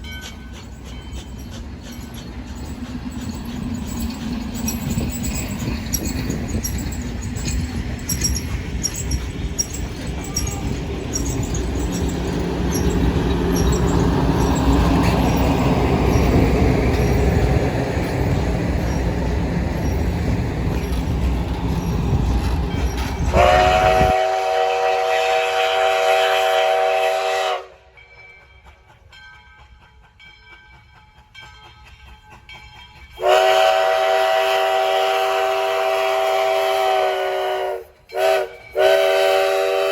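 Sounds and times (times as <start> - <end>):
low rumbling of moving train: 0.0 - 39.9
steam locomotive chime whistle: 3.4 - 17.5, 21.8 - 39.9.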